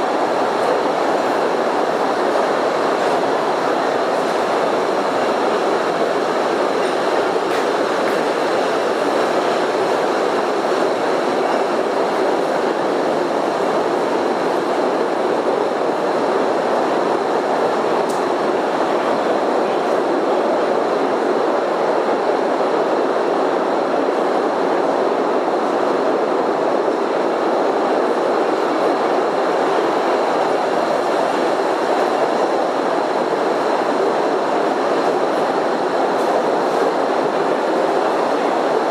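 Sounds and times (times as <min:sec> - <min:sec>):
train wheels clattering on rails: 0:00.0 - 0:20.5, 0:28.0 - 0:38.9.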